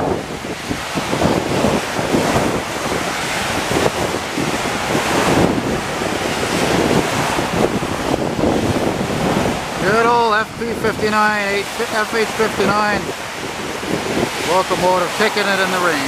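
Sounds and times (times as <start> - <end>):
car tyres swishing through water: 0.0 - 16.0
heavy rain hiss: 0.0 - 16.0
wind buffeting microphone: 0.0 - 16.0.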